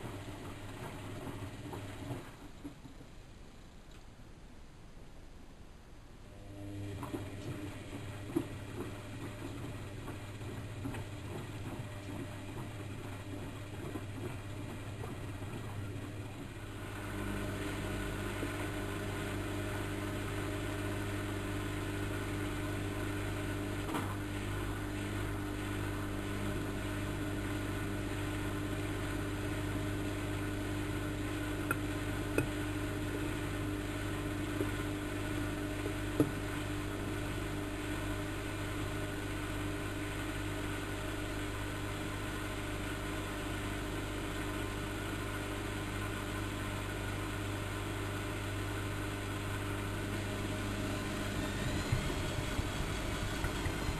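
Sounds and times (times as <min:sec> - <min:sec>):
washing machine motor hum: 0:00.0 - 0:03.8, 0:06.2 - 0:53.9.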